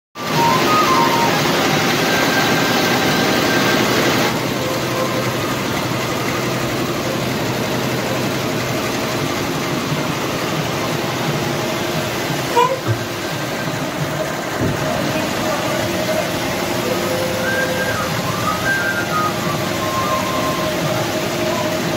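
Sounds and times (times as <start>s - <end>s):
sewing machine clattering: 0.2s - 21.9s.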